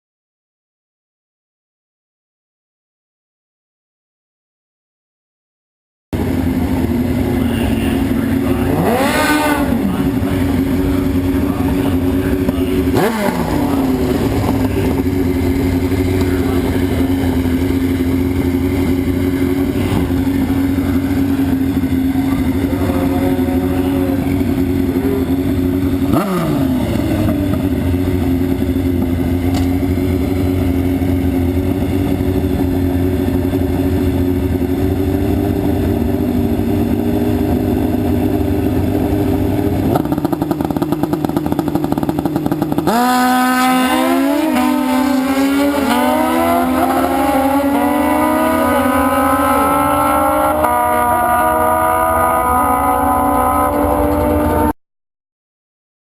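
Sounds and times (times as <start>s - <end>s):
motorcycle engines revving high: 6.2s - 54.8s.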